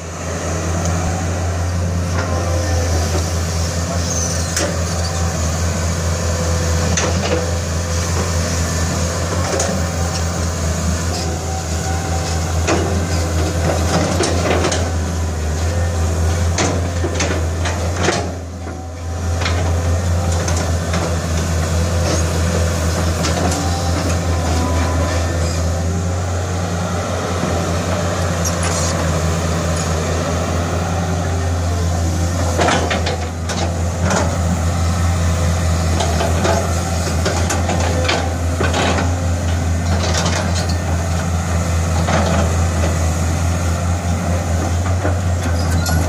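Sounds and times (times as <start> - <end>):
excavator diesel engine running: 0.0 - 46.0
bucket and tracks clanking: 6.8 - 26.3, 27.1 - 46.0.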